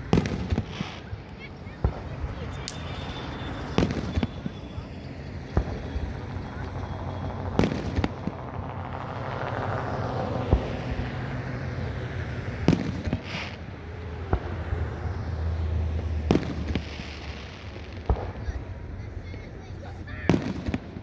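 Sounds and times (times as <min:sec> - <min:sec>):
fireworks bangs: 0:00.0 - 0:09.8, 0:10.4 - 0:21.0
low hum: 0:01.9 - 0:20.9.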